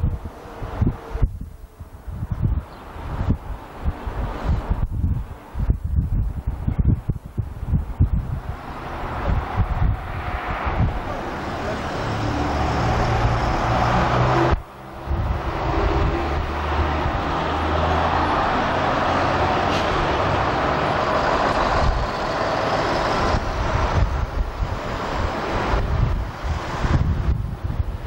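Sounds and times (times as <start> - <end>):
car engine droning: 0.0 - 27.8
road noise: 0.0 - 28.0.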